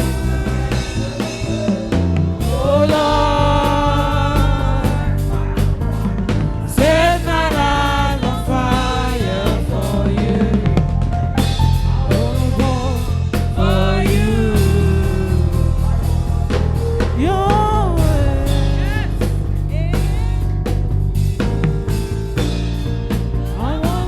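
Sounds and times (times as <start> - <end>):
person singing: 0.0 - 20.9, 23.4 - 24.0
band with drums: 0.0 - 24.0.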